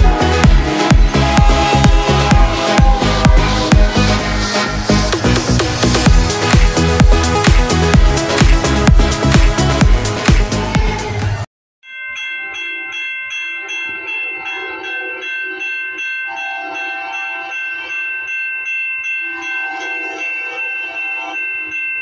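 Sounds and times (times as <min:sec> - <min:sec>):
crossing warning bell ringing: 0:00.0 - 0:07.7, 0:11.8 - 0:22.0.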